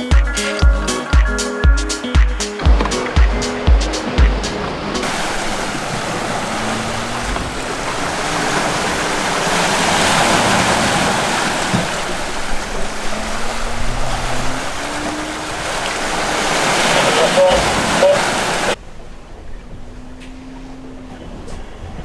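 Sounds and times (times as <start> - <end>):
water rushing along hulls: 0.0 - 22.0
wind: 0.0 - 22.0.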